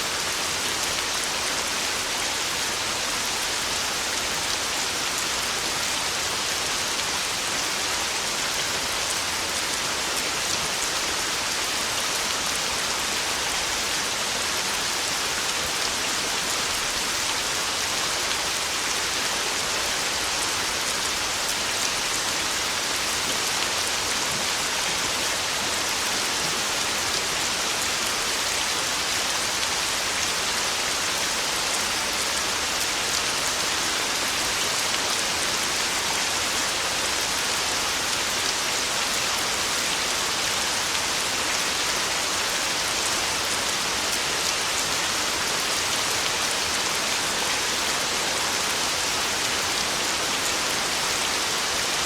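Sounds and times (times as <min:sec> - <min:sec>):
heavy rain on a tin roof: 0:00.0 - 0:52.0.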